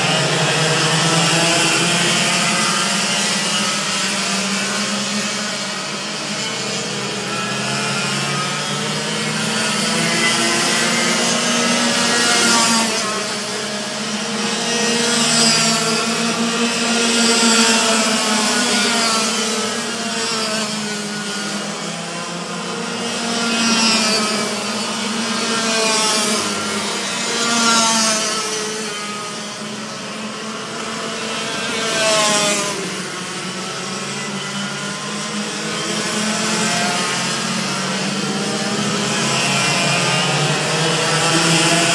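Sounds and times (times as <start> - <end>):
kart engines buzzing at high revs: 0.0 - 41.9.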